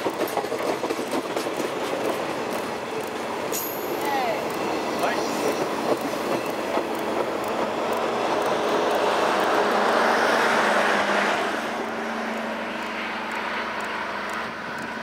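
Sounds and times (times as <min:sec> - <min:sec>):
train coaches rolling past: 0:00.0 - 0:15.0.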